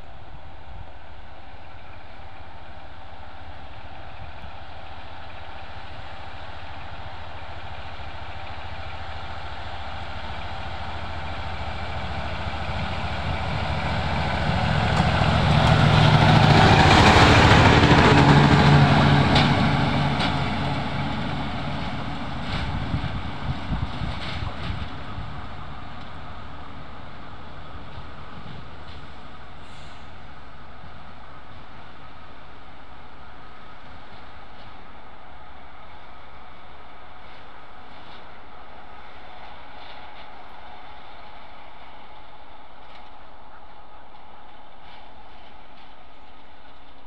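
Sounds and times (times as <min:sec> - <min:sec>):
diesel railcar engine passing: 0:00.0 - 0:47.0.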